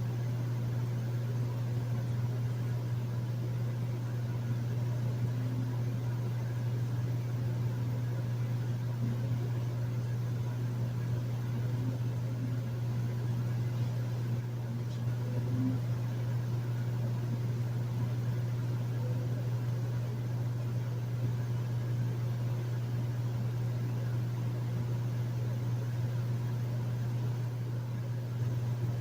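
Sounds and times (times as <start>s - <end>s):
air conditioner running: 0.0s - 29.0s.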